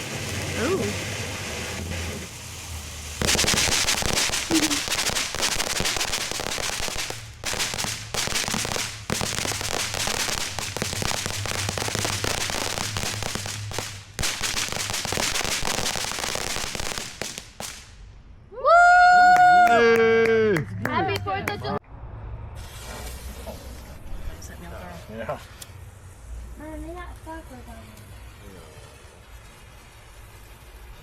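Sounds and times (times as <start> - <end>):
firework crackling: 0.0 - 18.4, 22.5 - 31.0.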